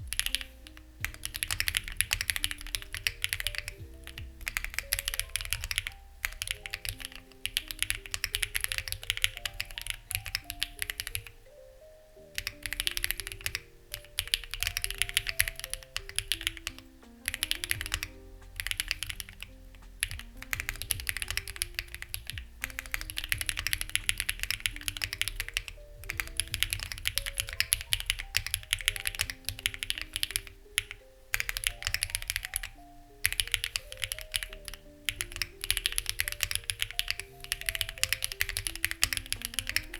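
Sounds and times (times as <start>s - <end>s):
mechanical keyboard key clacks: 1.0s - 11.3s, 12.4s - 39.9s.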